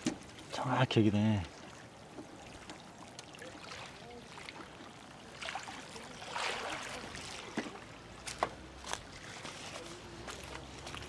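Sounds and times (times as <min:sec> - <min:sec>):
soft waterside noise: 0:00.0 - 0:11.0.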